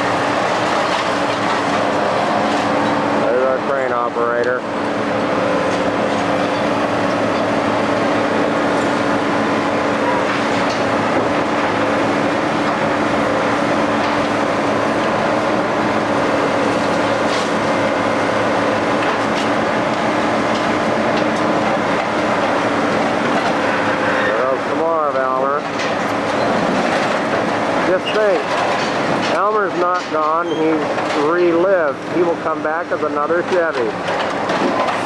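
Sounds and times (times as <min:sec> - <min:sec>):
crane engine humming: 0:00.0 - 0:35.0.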